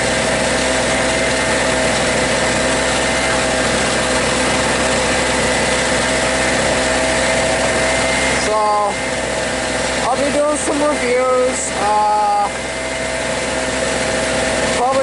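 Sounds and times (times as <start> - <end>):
portable generator engine running: 0.0 - 15.0.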